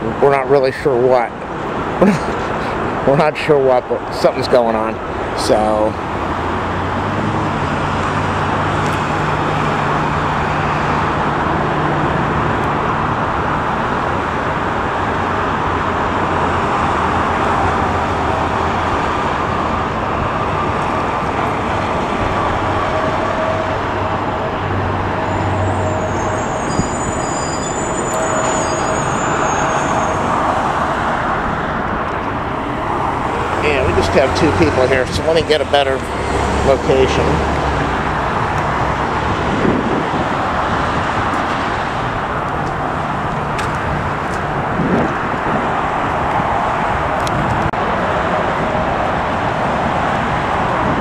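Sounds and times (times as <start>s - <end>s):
road traffic roar: 0.0s - 51.0s.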